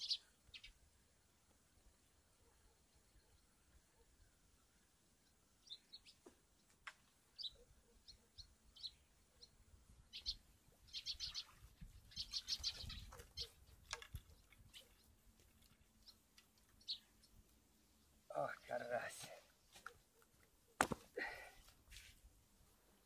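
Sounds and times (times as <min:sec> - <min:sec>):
songbirds chirping: 0:00.0 - 0:20.9.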